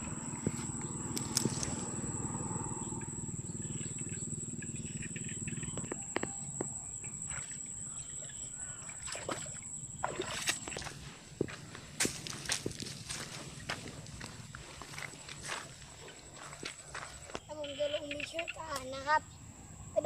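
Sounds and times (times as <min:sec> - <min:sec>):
high insect whine: 0:00.0 - 0:20.0
low pulsing frog drone: 0:00.0 - 0:20.0.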